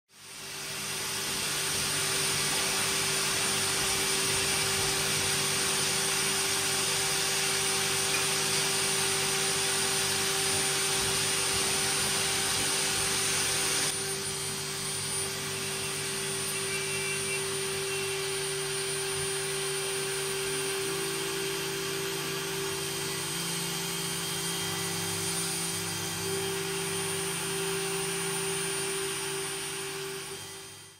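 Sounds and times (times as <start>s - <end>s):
router whine and hum: 0.2s - 30.9s.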